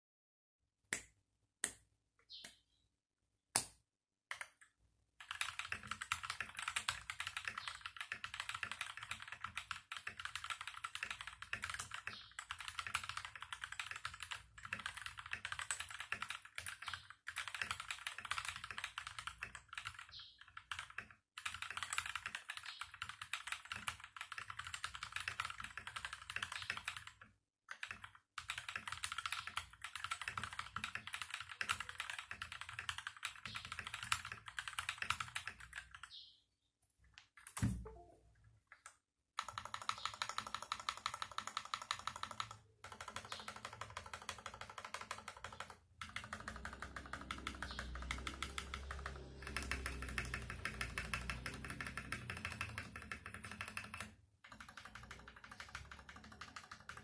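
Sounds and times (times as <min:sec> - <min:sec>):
mechanical keyboard typing: 0:05.2 - 0:36.2, 0:39.4 - 0:57.0.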